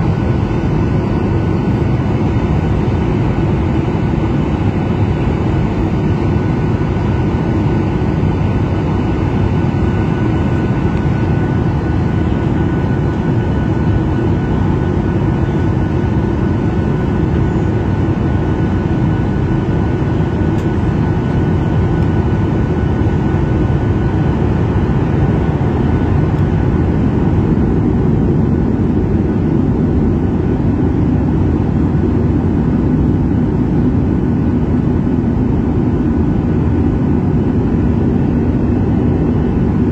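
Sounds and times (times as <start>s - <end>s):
airliner cabin engine rush: 0.0s - 39.9s
faint steady whine: 0.0s - 39.9s.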